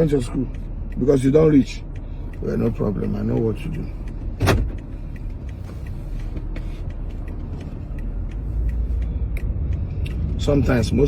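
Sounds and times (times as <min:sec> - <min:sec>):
car rumble from inside cabin: 0:00.0 - 0:11.0
faint ticks: 0:00.0 - 0:11.0.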